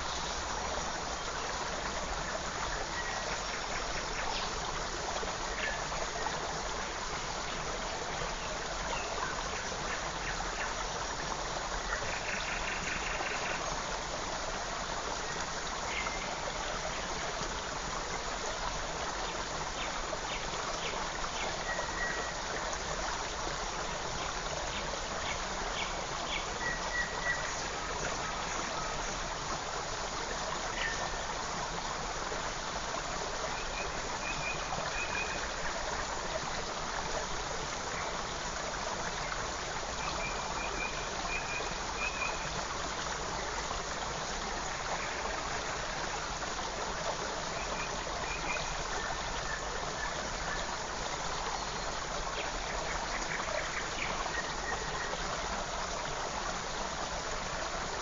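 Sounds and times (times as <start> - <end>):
creek babbling: 0.0 - 58.0.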